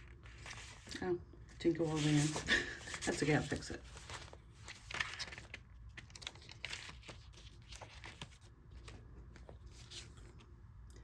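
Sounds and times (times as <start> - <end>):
paper pages rustling: 0.0 - 10.6.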